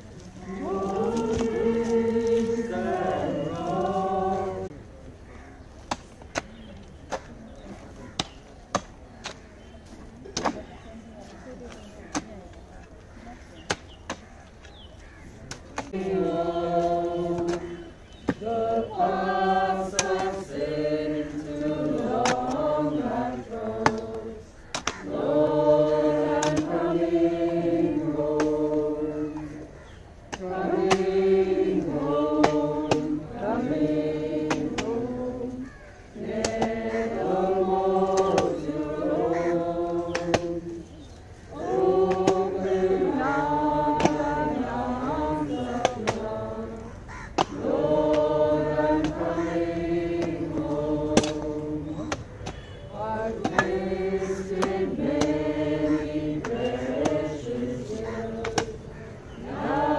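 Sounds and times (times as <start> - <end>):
group singing a hymn: 0.0 - 4.9, 15.5 - 59.9.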